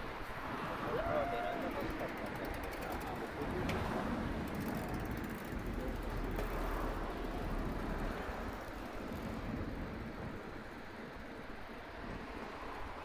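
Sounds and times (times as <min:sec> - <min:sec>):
low outdoor rumble: 0:00.3 - 0:13.0.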